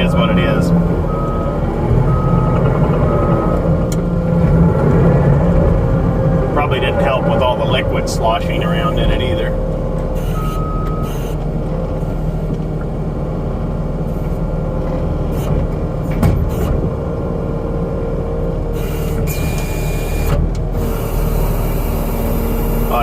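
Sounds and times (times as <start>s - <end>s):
diesel engine under heavy load: 0.0s - 23.0s.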